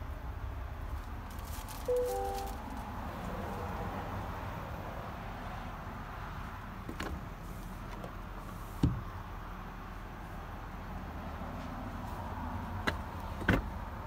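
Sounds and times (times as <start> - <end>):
truck cab rumble: 0.0 - 14.0.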